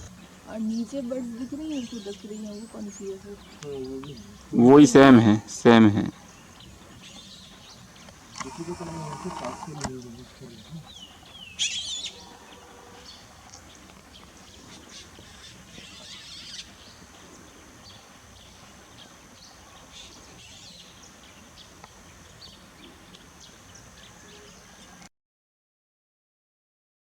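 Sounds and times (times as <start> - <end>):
small birds chirping: 0.0 - 25.1.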